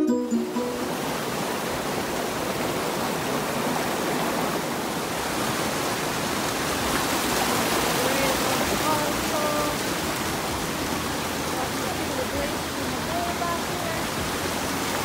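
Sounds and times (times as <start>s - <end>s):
water rushing down a stream: 0.6s - 15.0s.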